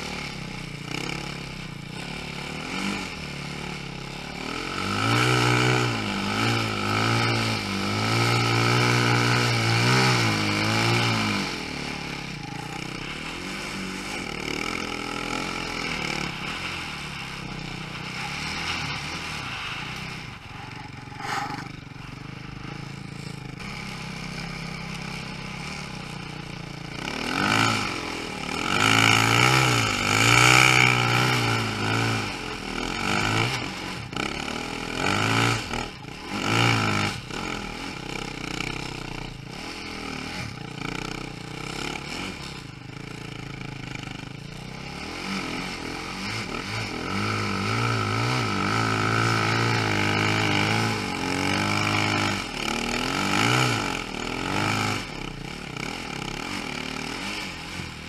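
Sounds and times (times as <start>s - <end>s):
snow bike engine revving: 0.0s - 58.0s.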